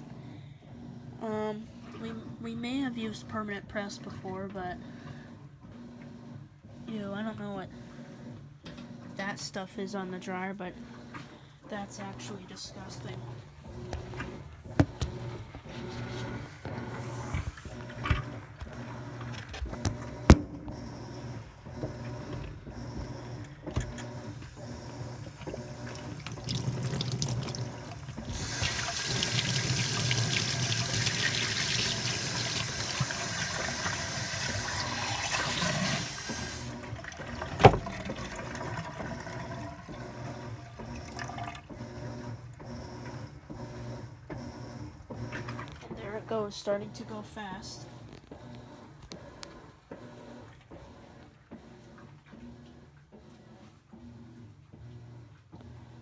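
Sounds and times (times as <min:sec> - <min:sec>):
washing machine humming and pulsing: 0:00.0 - 0:56.0.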